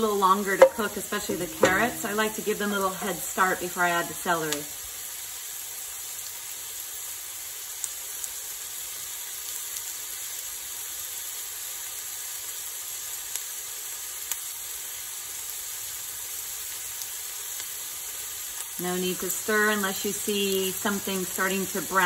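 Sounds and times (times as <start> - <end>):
small pops of frying: 0.0 - 3.4, 4.1 - 22.0
vegetables sizzling in oil: 0.0 - 22.0.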